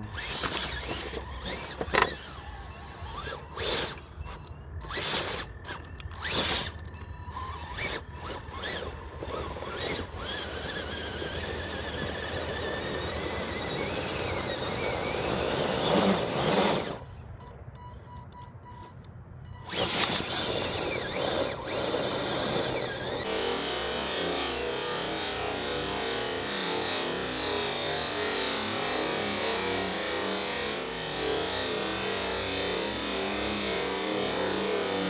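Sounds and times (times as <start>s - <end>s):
model truck motor whining: 0.0s - 17.5s, 19.6s - 35.0s.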